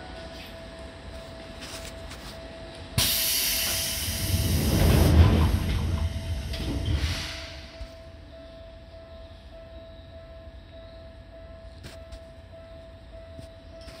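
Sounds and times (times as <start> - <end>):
electric train hum: 0.0 - 14.0.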